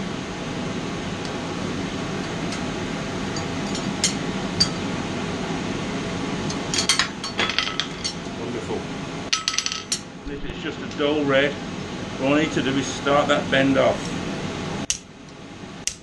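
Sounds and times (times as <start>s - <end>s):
air blower humming: 0.0s - 9.3s, 10.0s - 15.8s.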